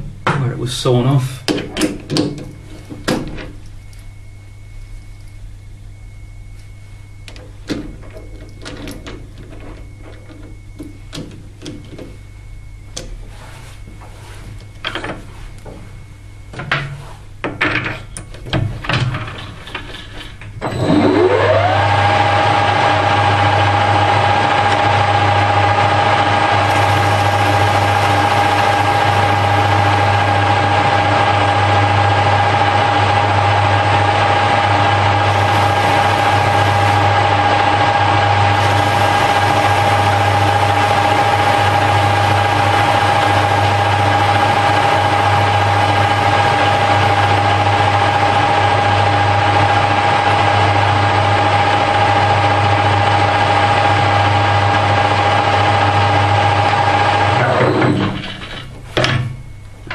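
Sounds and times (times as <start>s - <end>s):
lathe whining and humming: 2.5s - 59.9s.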